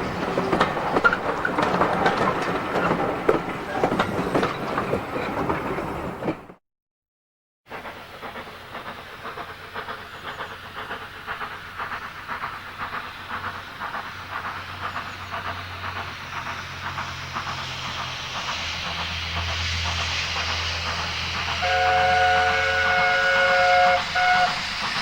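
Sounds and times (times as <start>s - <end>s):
steam hissing: 0.0s - 6.3s, 7.7s - 25.0s
steam locomotive exhaust beats: 0.0s - 6.6s, 7.7s - 25.0s.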